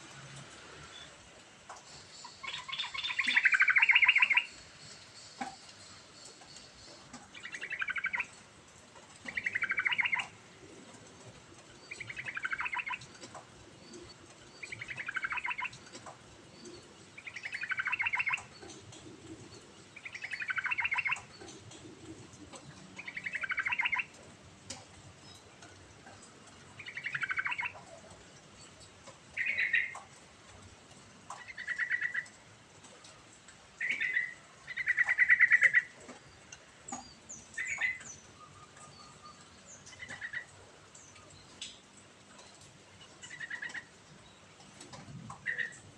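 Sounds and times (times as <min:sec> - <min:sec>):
bulbul rattling song: 0:01.8 - 0:32.4, 0:33.7 - 0:45.9.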